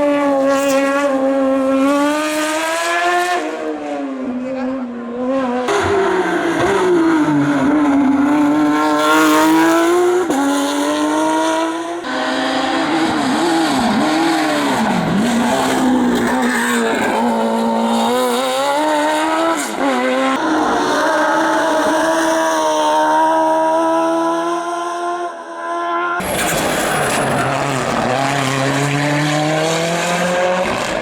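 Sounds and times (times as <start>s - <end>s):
racing car engine revving: 0.0s - 31.0s.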